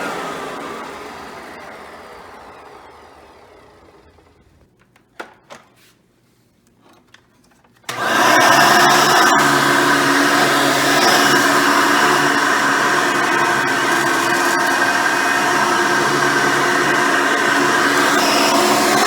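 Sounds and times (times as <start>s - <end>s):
vacuum cleaner motor: 0.0s - 4.7s, 7.9s - 19.0s.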